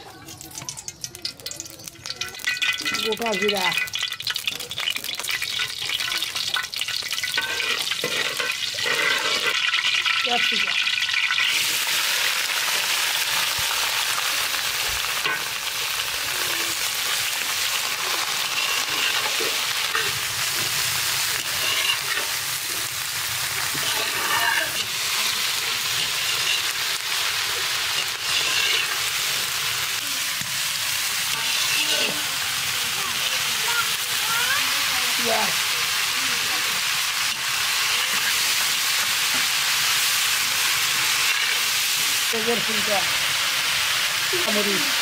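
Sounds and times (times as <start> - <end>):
vegetables sizzling in hot oil: 0.0 - 45.0
stirring strokes in a pan: 5.0 - 45.0.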